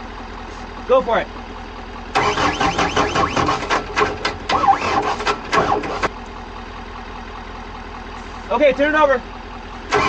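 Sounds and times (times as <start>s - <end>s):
engine idling: 0.0s - 10.0s
diesel engine cranking: 0.2s - 10.0s.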